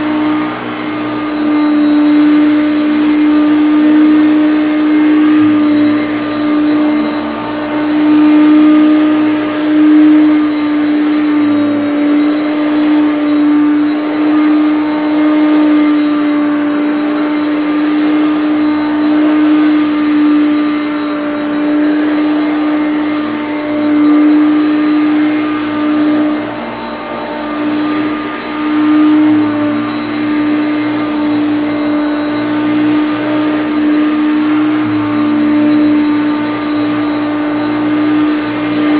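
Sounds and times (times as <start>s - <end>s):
vacuum cleaner motor hum: 0.0s - 38.9s.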